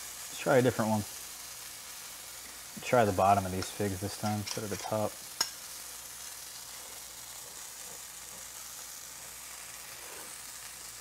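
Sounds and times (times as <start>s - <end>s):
sugar sizzling in a pan: 0.0s - 11.0s.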